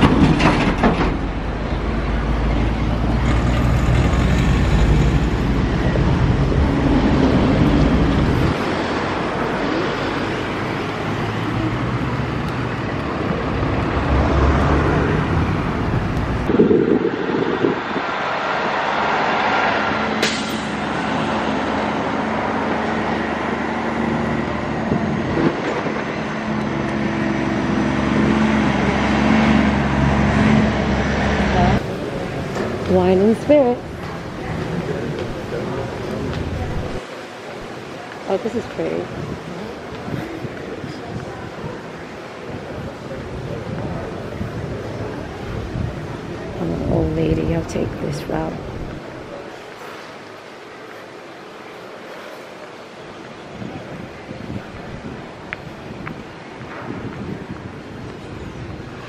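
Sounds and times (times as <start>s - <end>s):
road traffic rumbling: 0.0s - 59.0s.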